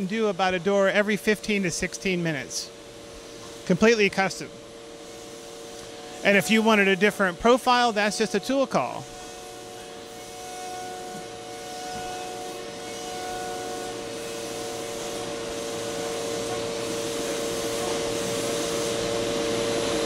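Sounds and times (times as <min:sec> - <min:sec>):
cnc router whining: 0:00.0 - 0:20.0.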